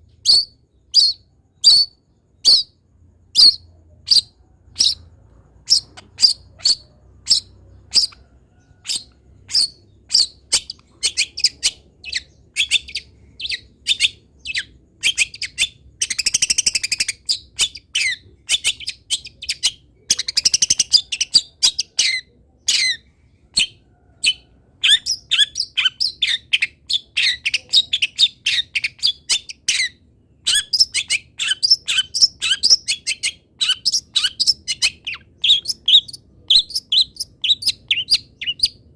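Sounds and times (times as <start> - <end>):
bird sharp high chirps: 0.1 - 2.8, 3.4 - 38.9.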